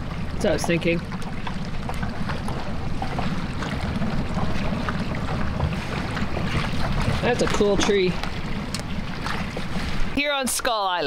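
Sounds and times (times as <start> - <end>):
water splashes and drips: 0.0 - 11.0.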